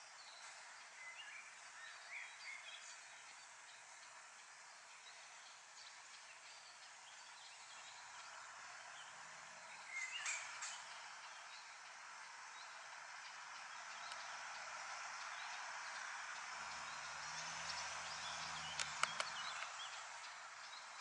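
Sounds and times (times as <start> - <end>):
distant bird calls: 0.0 - 21.0
steady hiss: 0.0 - 21.0.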